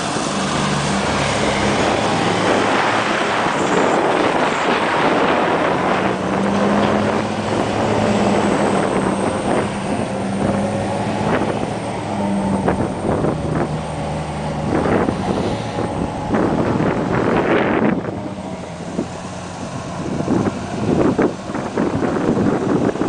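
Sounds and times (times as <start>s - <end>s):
diesel truck engine running: 0.0s - 23.0s
wind noise on microphone: 0.0s - 23.0s.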